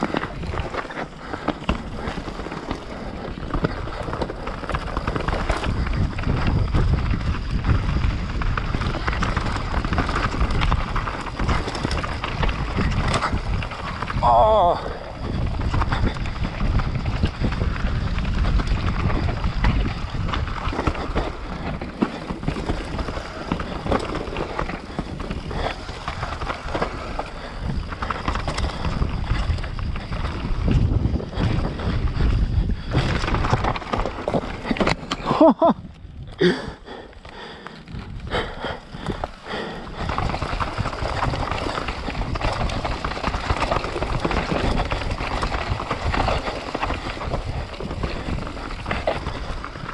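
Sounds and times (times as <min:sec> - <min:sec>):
bike rattling: 0:00.0 - 0:49.9
tyres rolling on dirt and stones: 0:00.0 - 0:49.9
wind buffeting microphone: 0:00.0 - 0:49.9.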